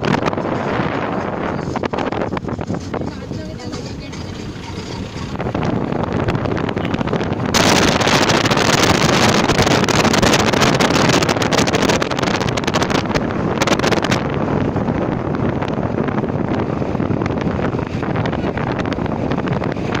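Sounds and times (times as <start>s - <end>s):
vehicle running noise: 0.0s - 20.0s
wind buffeting microphone: 0.0s - 20.0s.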